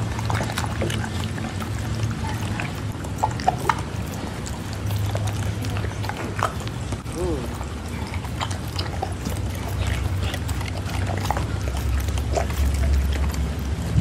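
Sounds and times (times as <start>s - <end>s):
dog chewing wet food: 0.0s - 14.0s.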